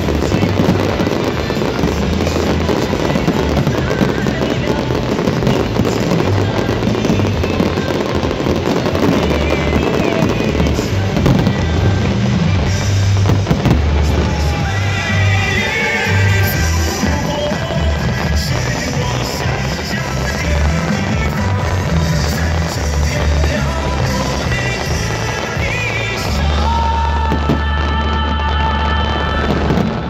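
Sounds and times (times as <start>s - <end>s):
fireworks crackling: 0.0s - 30.0s
loud music with heavy bass: 0.0s - 30.0s.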